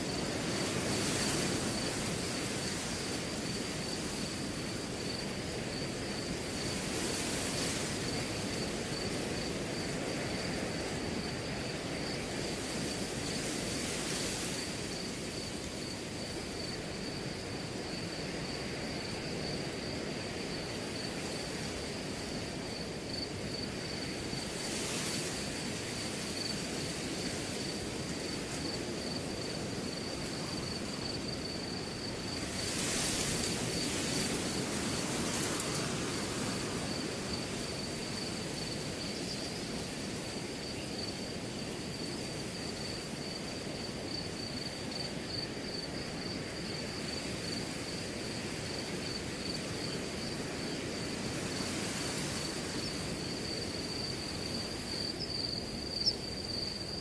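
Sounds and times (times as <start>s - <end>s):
cricket trilling: 0.0s - 57.0s
wind rustling grass: 0.0s - 57.0s.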